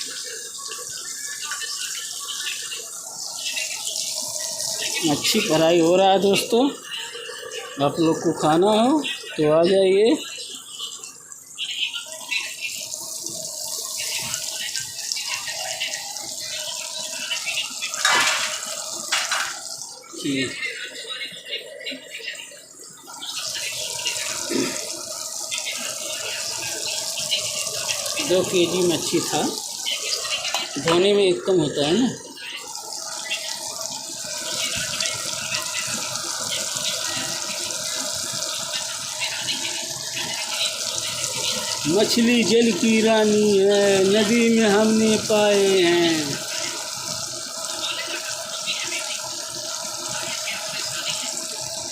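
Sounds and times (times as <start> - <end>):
fish sizzling in hot oil: 0.0 - 51.9.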